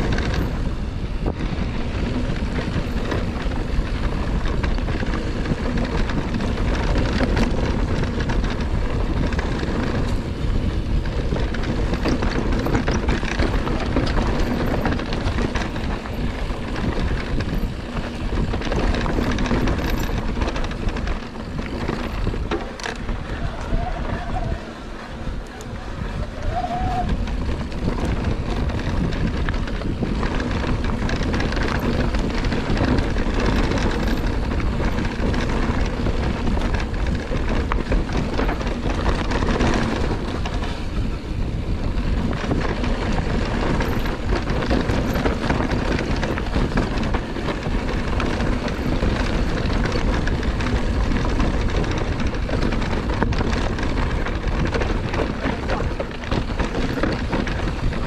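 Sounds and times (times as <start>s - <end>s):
bike rattling and clattering: 0.0s - 58.0s
bike tyre roar on dirt: 0.0s - 58.0s
wind on microphone: 0.0s - 58.0s.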